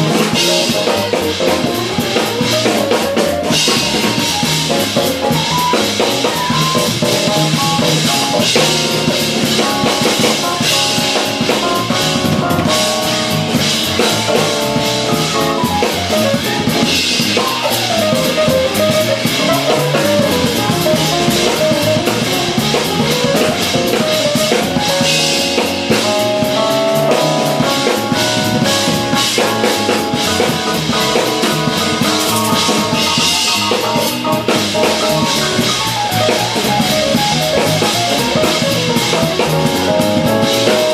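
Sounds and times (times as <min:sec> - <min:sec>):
jazz fusion band playing: 0:00.0 - 0:40.9.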